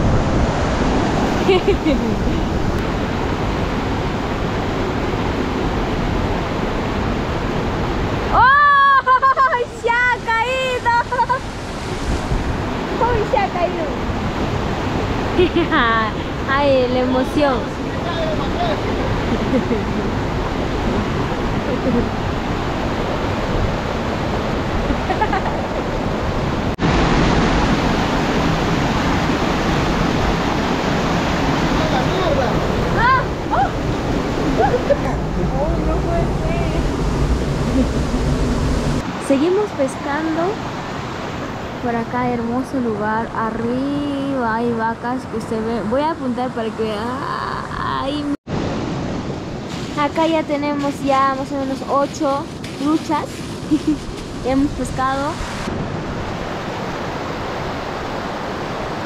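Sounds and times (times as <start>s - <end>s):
river water rushing: 0.0s - 42.2s, 48.1s - 59.0s.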